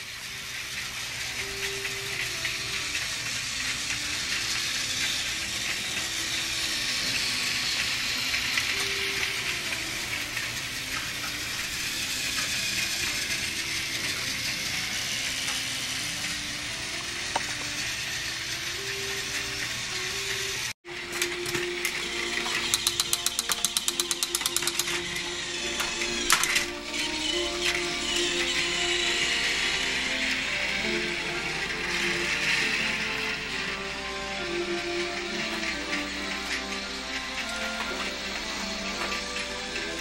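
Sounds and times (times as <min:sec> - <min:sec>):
toy train motor whirring: 0:00.0 - 0:40.0.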